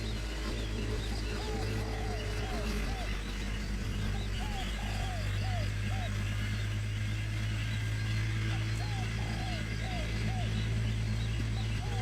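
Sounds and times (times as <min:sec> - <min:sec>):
bird chirping: 0:00.0 - 0:12.0
steady low hum: 0:00.0 - 0:12.0.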